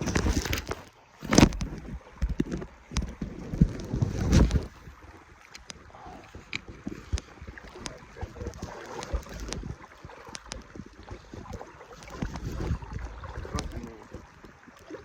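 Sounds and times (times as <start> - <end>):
stream water sloshing: 0.0 - 15.0.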